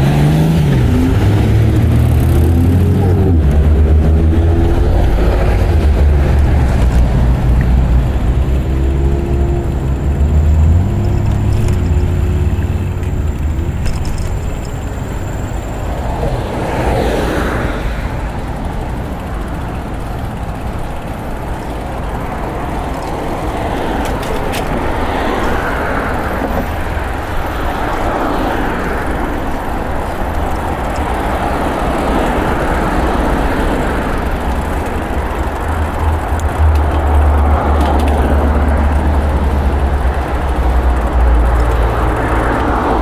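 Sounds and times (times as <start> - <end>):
steady low traffic rumble: 0.0 - 43.0
vehicles passing: 0.0 - 43.0.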